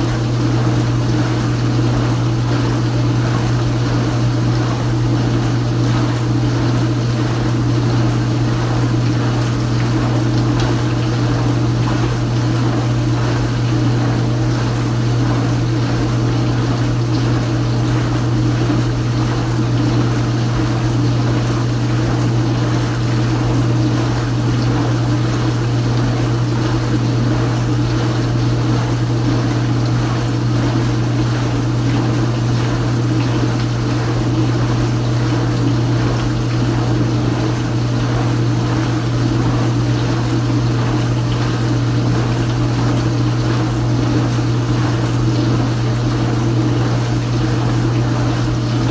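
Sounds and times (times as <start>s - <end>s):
dishwasher motor hum: 0.0s - 48.9s.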